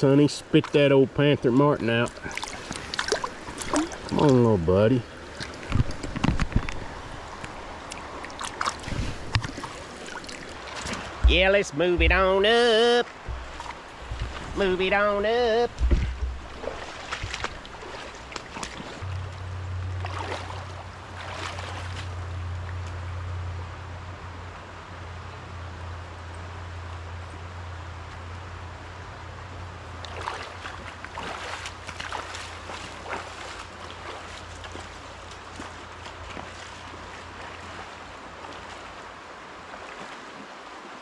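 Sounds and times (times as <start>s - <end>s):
river running over rocks: 0.0s - 22.8s, 29.3s - 41.0s
splashes of wading: 0.0s - 23.1s, 29.6s - 41.0s.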